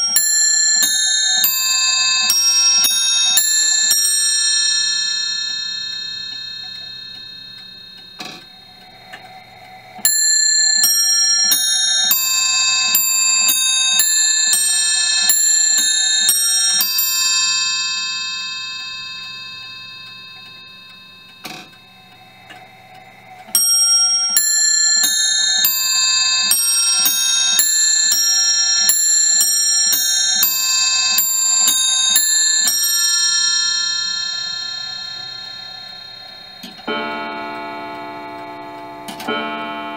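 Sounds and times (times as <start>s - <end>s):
clock bells chiming: 0.0s - 39.9s.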